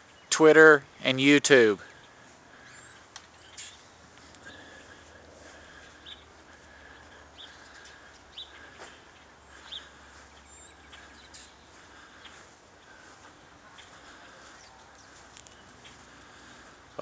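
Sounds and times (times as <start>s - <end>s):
birds chirping: 0.0s - 17.0s
faint steady hum: 0.0s - 17.0s.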